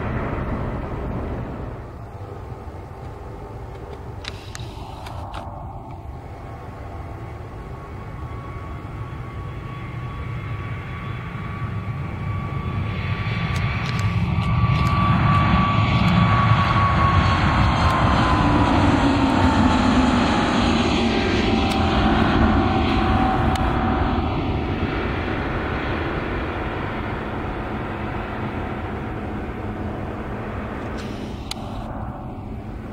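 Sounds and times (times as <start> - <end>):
jet engines at takeoff power: 0.0 - 32.9.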